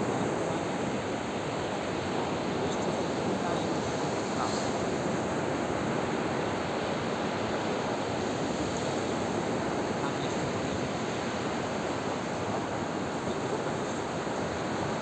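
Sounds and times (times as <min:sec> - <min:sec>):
sea surf washing ashore: 0:00.0 - 0:15.0.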